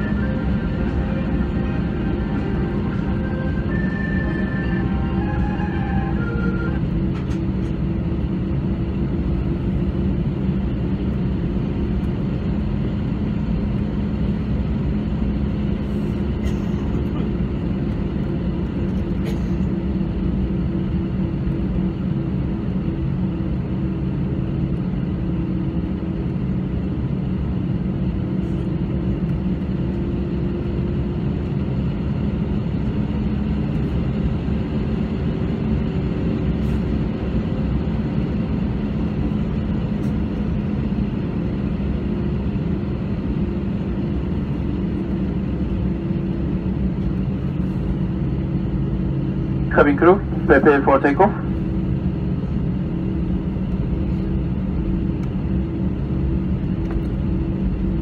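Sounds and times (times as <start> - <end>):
aircraft engines droning: 0.0 - 58.0
constant cabin hum: 0.0 - 58.0.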